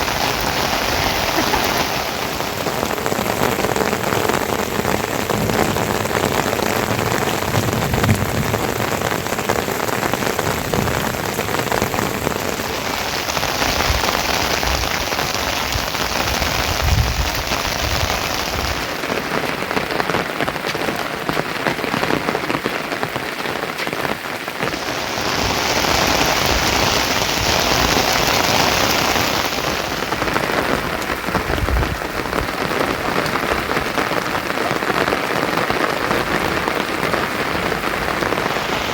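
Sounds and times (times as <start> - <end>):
rain patter: 0.0 - 38.9.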